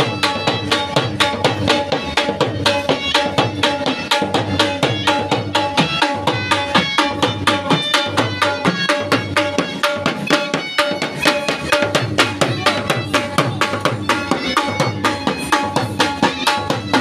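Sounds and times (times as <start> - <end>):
fast drum beat: 0.0 - 17.0
held melody line: 0.0 - 17.0.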